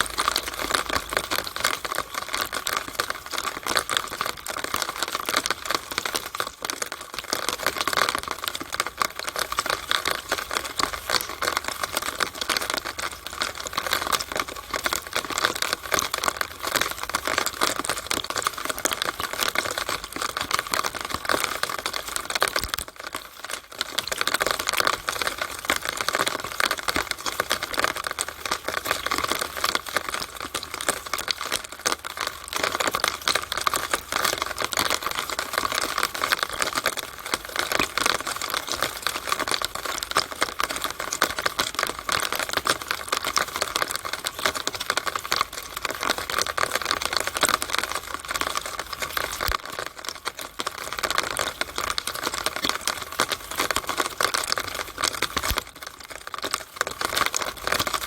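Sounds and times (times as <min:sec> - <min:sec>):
rainwater dripping in a downspout: 0:00.0 - 0:58.0.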